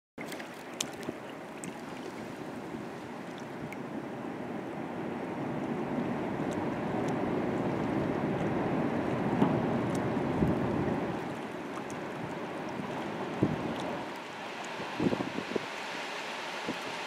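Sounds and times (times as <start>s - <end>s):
river water lapping on rocks: 0.2s - 3.9s, 6.4s - 17.0s
small water splashes: 0.2s - 3.9s, 6.4s - 17.0s.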